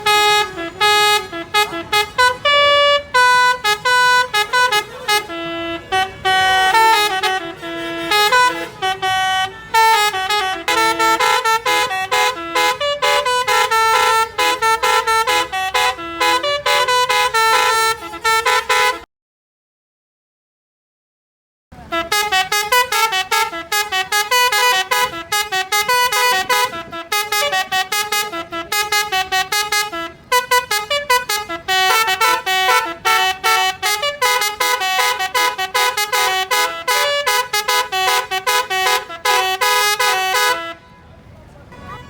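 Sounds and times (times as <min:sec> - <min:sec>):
bus horn playing fast melody: 0:00.0 - 0:19.1, 0:21.8 - 0:42.0.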